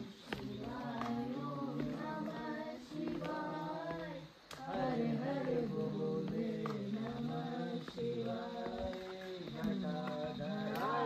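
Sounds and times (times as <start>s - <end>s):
song with high singing voice: 0.0s - 11.0s.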